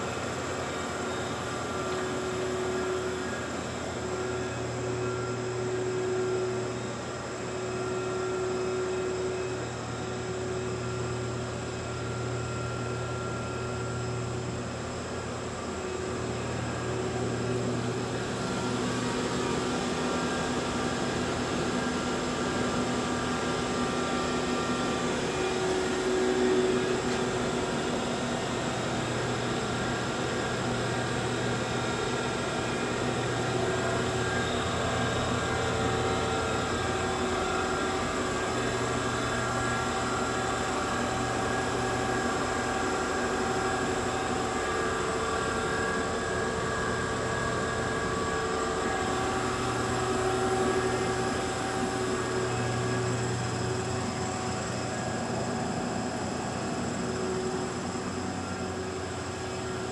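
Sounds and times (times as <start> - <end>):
machining center hum and whine: 0.0 - 59.9.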